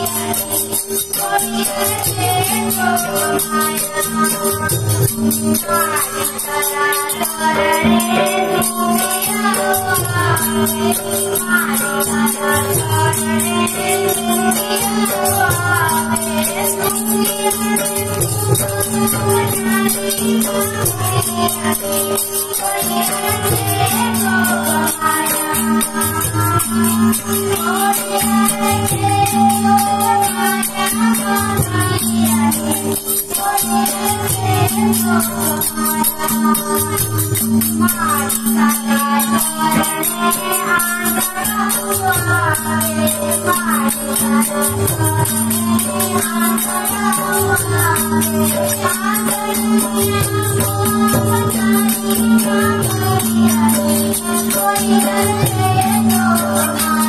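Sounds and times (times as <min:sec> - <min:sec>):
high jingling rattle: 0:00.0 - 0:57.0
tabla beat: 0:00.0 - 0:57.0.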